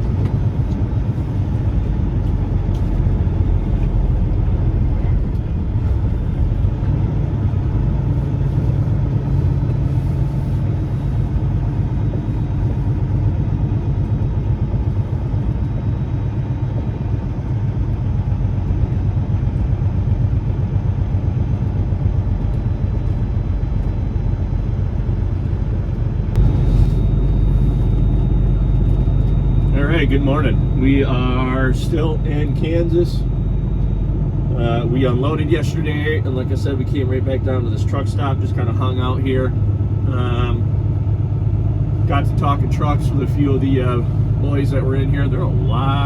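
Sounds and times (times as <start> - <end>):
truck diesel engine drone: 0.0 - 46.0.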